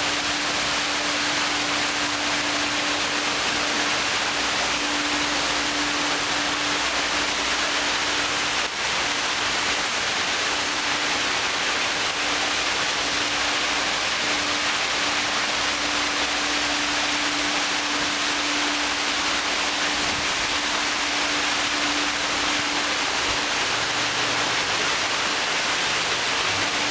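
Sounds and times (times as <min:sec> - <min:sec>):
waterfall splashing: 0:00.0 - 0:26.9.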